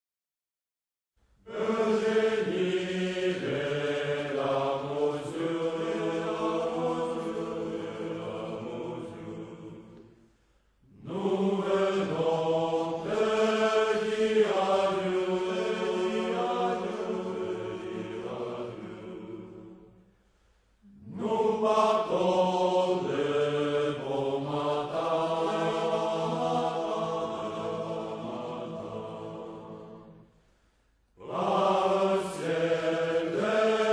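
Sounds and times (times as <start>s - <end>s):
choir singing: 1.4s - 10.2s, 10.8s - 20.0s, 20.8s - 30.3s, 31.2s - 33.9s.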